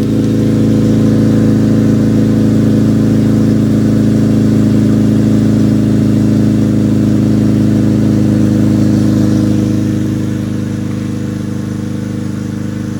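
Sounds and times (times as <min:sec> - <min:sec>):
car exhaust idling: 0:00.0 - 0:12.9.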